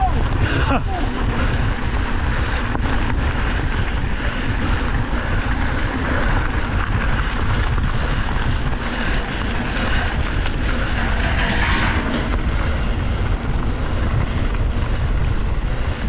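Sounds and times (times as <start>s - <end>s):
bike clicks and rattles: 0.0s - 16.0s
wind rushing over microphone: 0.0s - 16.0s.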